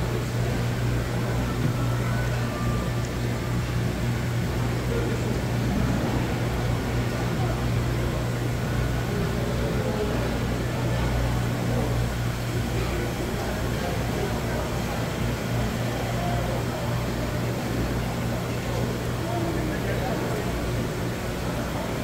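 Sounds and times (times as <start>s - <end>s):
faint indistinct voices: 0.0s - 22.0s
machine hum: 0.0s - 22.0s.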